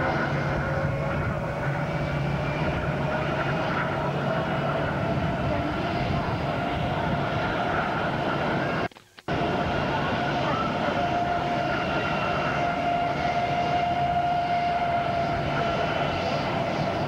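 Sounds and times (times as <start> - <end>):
engine whine: 0.0 - 17.0
jet engines running: 0.0 - 17.0.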